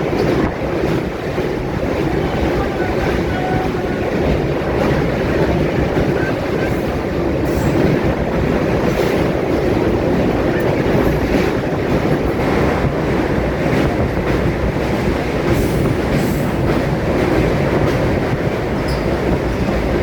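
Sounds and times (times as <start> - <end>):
faint rail clacks: 0.0 - 20.0
train rumbling on rails: 0.0 - 20.0.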